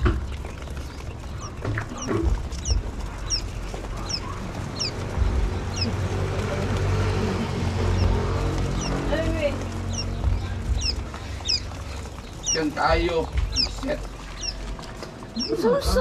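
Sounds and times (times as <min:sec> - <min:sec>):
low background rumble: 0:00.0 - 0:16.0
quail chicks peeping: 0:00.0 - 0:16.0.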